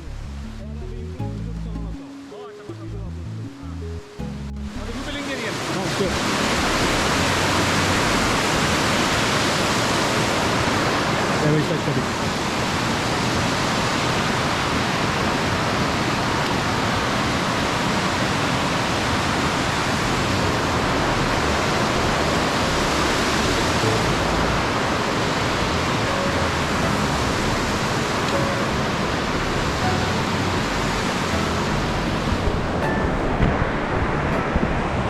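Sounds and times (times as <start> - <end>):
rushing creek and waterfall: 4.8 - 35.0.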